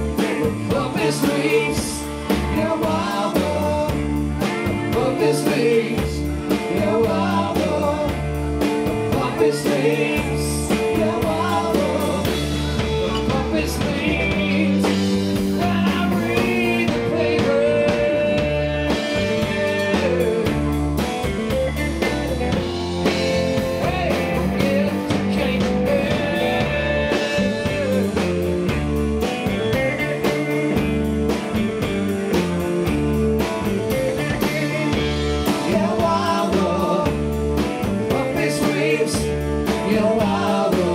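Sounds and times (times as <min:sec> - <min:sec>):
lead vocal singing: 0:00.0 - 0:21.3, 0:22.4 - 0:28.9, 0:33.9 - 0:40.9
drum kit: 0:00.0 - 0:40.9
electric bass: 0:00.0 - 0:40.9
electric guitars: 0:00.0 - 0:40.9.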